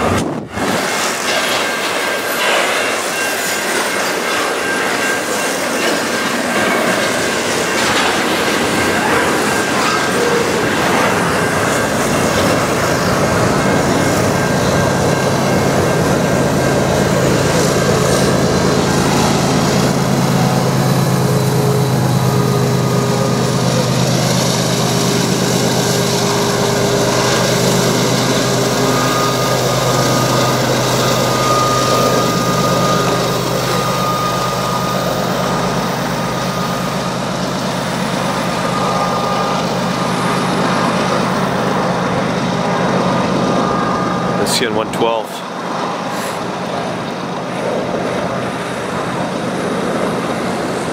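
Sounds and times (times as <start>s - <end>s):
train wheels rolling on rail: 0.0s - 44.6s, 45.2s - 50.9s
diesel locomotive engine hum: 0.0s - 50.9s.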